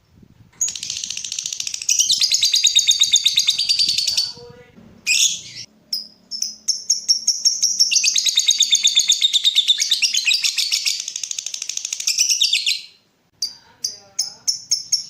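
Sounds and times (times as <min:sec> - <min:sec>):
lovebird chirping: 0:00.6 - 0:15.0.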